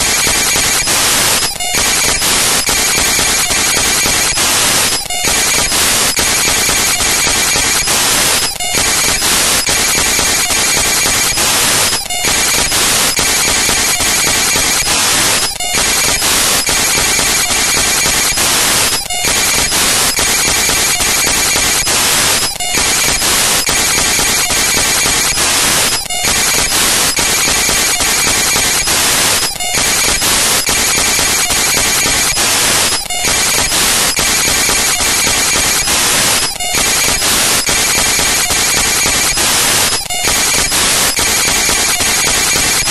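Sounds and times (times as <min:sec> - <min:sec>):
loud static noise: 0:00.0 - 0:42.9.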